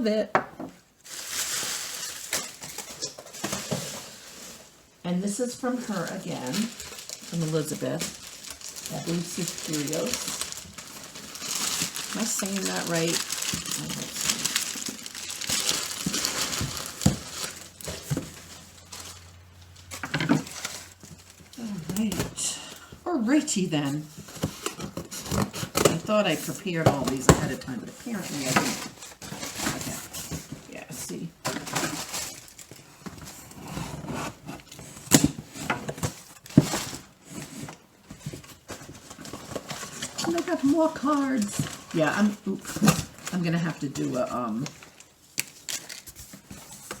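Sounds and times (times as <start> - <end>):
packing material crinkling: 1.0 - 47.0.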